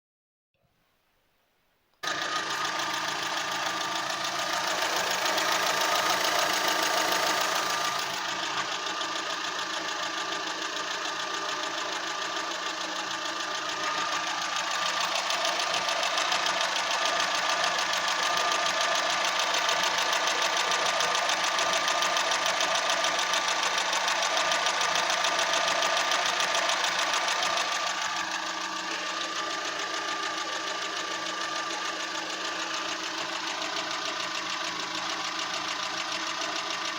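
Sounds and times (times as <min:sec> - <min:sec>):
car engine idling roughly: 0:02.0 - 0:36.9.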